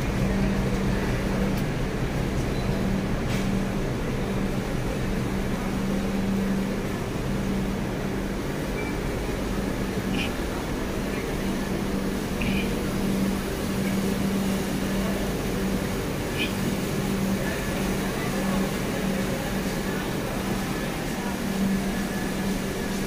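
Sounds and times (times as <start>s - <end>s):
train machinery hum: 0.0s - 23.0s.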